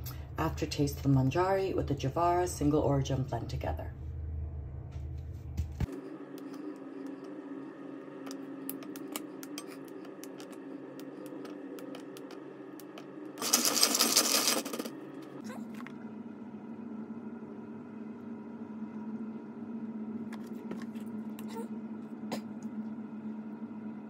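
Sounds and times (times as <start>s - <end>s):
background hum: 0.0s - 24.0s.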